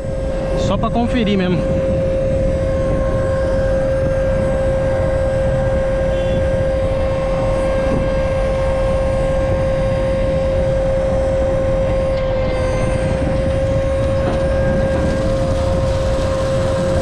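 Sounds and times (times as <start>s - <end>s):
tractor engine whine and rumble: 0.0s - 17.0s.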